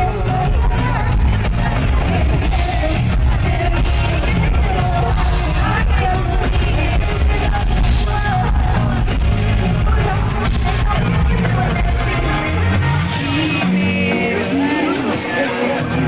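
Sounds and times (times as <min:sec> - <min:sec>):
crowd voices: 0:00.0 - 0:16.0
loud amplified pop music: 0:00.0 - 0:16.0
person singing: 0:00.0 - 0:16.0.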